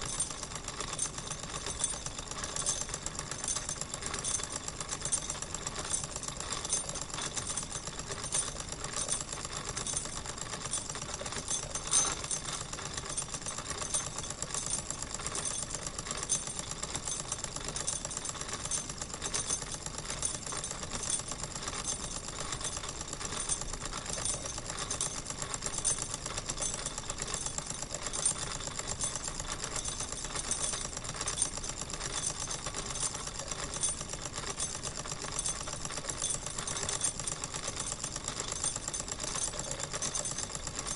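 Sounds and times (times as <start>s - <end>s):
toy steam engine ticking: 0.0s - 40.9s.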